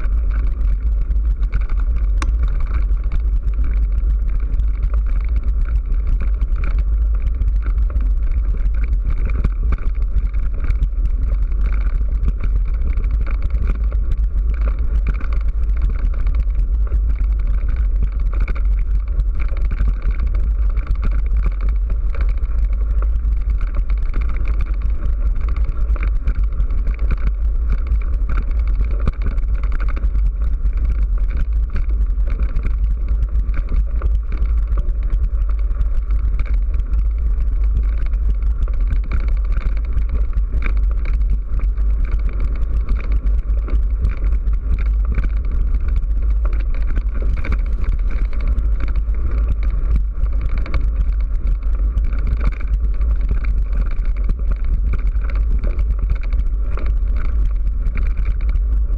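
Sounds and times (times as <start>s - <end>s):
bike tyre noise: 0.0s - 58.9s
wind rumble on microphone: 0.0s - 58.9s.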